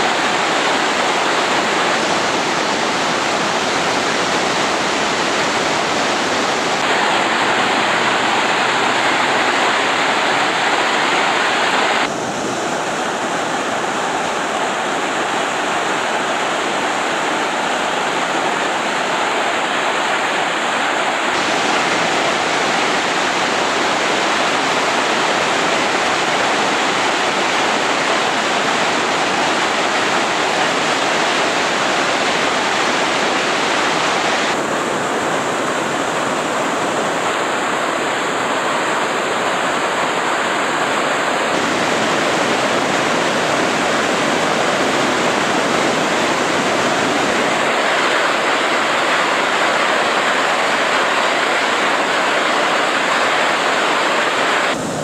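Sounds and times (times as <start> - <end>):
whitewater rushing: 0.0 - 55.0.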